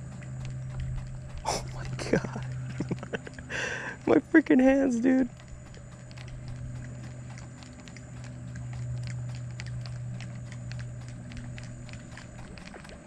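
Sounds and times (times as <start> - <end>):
fishing reel ticking: 0.0 - 13.0
low hum: 0.0 - 13.0.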